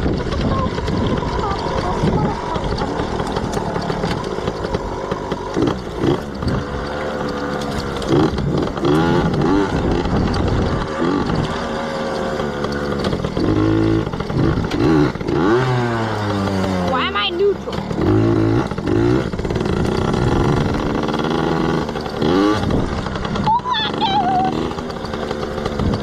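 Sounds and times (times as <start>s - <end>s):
dirt bike two-stroke engine: 0.0s - 26.0s.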